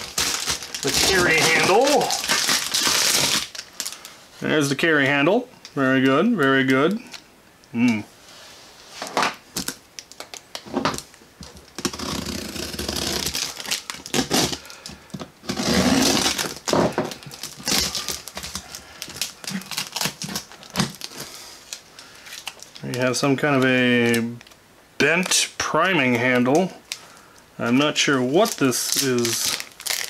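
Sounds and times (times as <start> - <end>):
plastic wrap crinkling: 0.0 - 7.3, 8.9 - 30.0.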